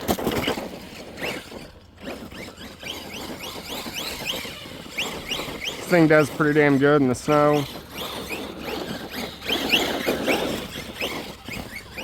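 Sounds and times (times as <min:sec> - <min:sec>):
toy truck motor whining: 0:00.0 - 0:12.0
wheels scrabbling through snow: 0:00.0 - 0:12.0.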